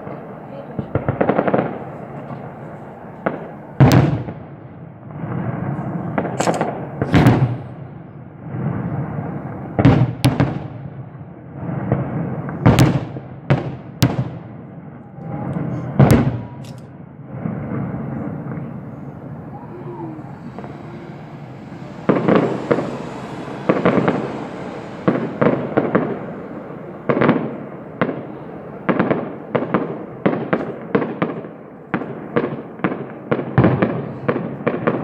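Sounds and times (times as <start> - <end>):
fireworks bangs with rumbling echo: 0.0 - 35.0.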